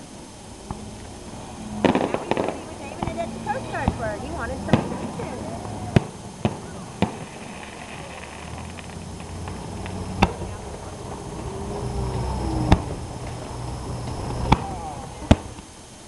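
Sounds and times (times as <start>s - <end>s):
firework shells bursting: 0.0s - 16.0s
steady low rumble: 0.0s - 16.0s.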